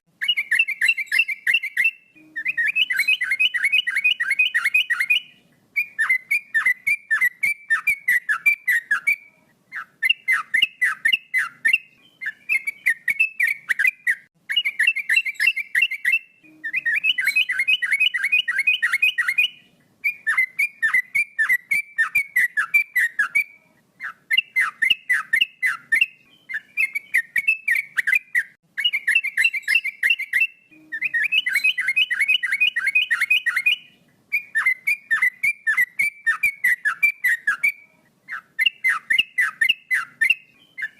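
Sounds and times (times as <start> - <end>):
bird singing whistled notes: 0.1 - 40.9.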